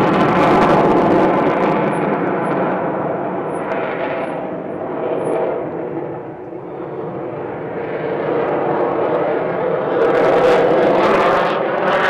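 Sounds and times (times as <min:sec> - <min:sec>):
jet engine rumble in flight: 0:00.0 - 0:12.0.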